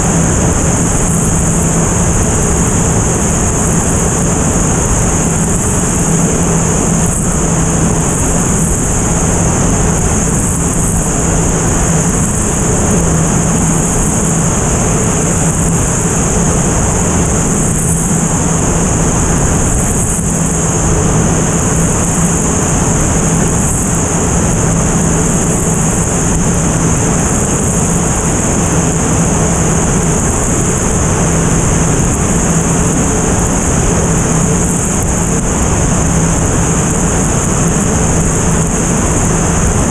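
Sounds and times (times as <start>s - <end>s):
constant low hum: 0.0s - 39.9s
propeller engine drone: 0.0s - 39.9s
wind rush: 0.0s - 39.9s.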